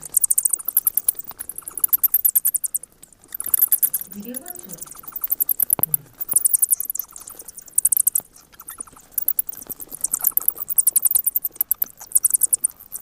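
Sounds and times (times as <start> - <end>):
bat chittering clicks: 0.0 - 13.0.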